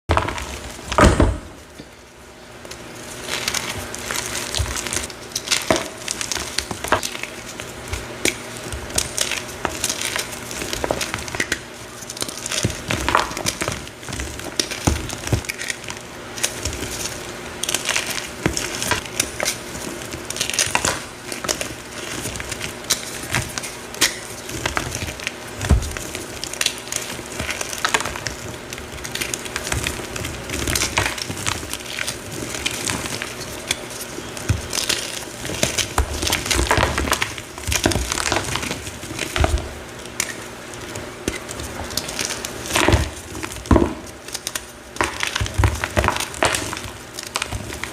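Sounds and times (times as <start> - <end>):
powdery block crunching: 0.1 - 47.9.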